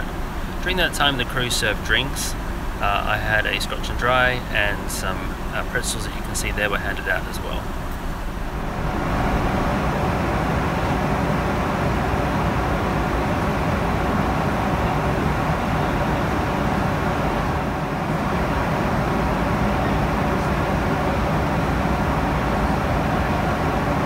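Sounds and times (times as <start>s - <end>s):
airplane cabin noise: 0.0s - 24.0s.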